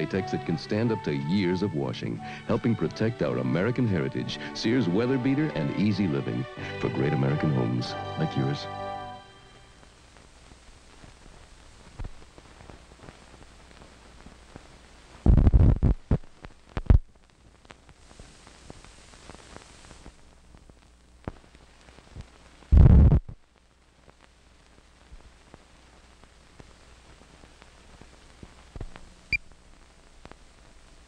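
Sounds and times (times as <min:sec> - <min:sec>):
faint hiss and hum: 0:00.0 - 0:31.0.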